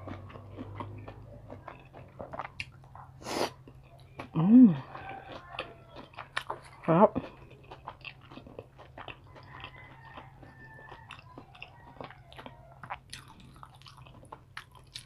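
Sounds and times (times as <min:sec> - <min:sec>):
close chewing with crunches: 0:00.0 - 0:15.0.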